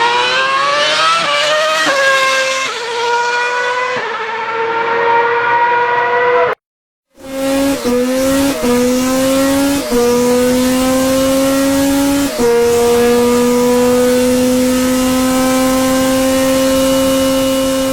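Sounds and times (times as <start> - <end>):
racing car engine accelerating: 0.0 - 6.6, 7.2 - 17.9.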